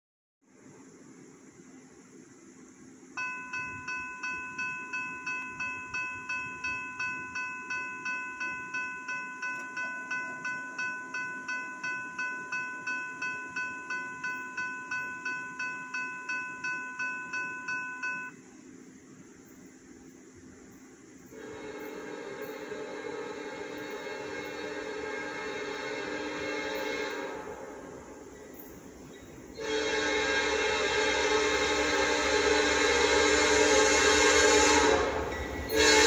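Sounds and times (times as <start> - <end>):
railroad crossing bell ringing: 3.2 - 18.4, 21.3 - 36.0.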